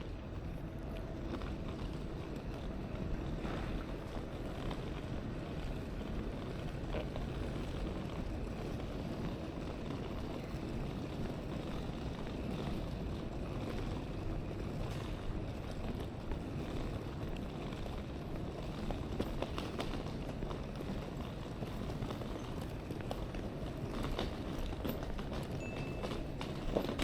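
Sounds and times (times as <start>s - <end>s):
station hall rumble: 0.0s - 27.0s.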